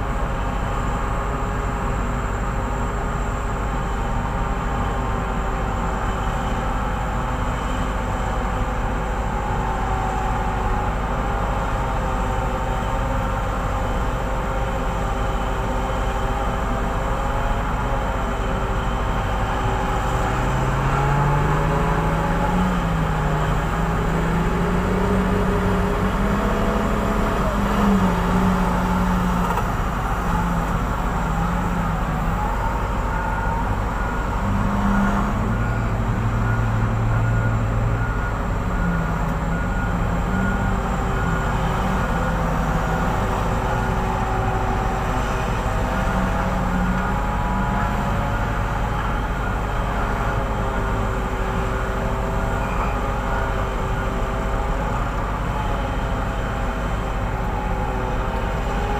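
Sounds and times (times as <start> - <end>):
large diesel engines running: 0.0 - 58.9.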